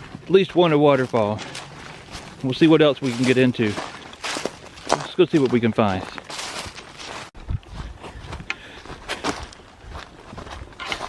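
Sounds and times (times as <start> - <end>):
footsteps on trail: 0.0 - 11.0.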